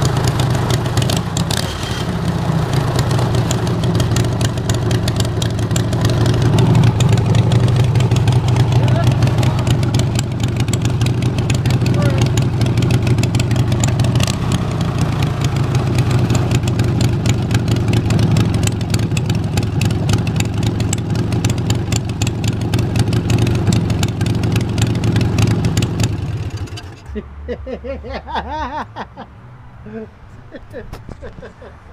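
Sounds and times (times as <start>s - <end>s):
v-twin engine running steadily: 0.0s - 27.1s.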